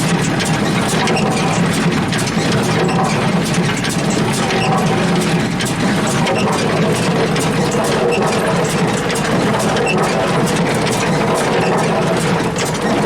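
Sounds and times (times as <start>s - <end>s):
tractor engine drone: 0.0s - 13.0s.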